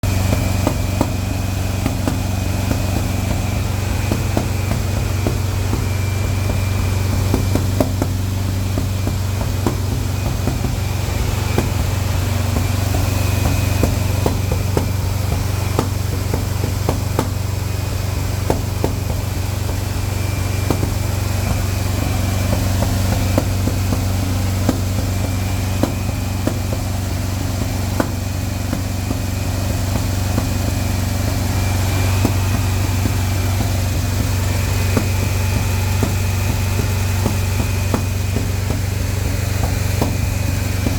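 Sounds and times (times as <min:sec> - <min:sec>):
engine idling with low drone: 0:00.0 - 0:40.9.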